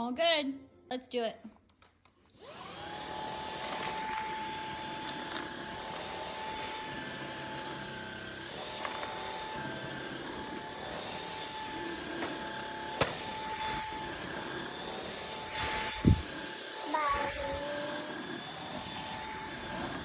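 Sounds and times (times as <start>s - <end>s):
vacuum cleaner motor whine: 2.3s - 20.0s.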